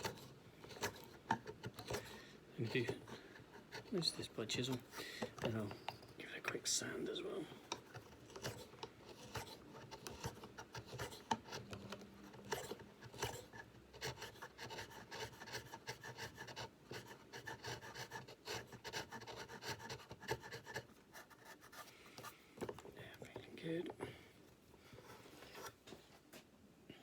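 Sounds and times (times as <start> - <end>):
chisel scraping wood: 0.0 - 6.1, 7.6 - 22.3, 25.0 - 25.8.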